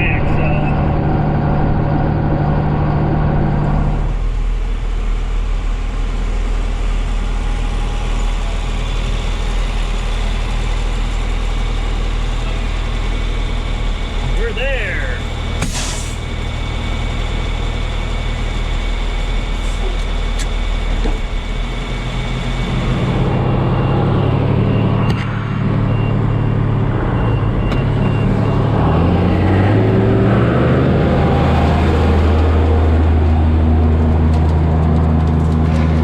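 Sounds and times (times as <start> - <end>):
large diesel engine running: 0.0 - 36.0.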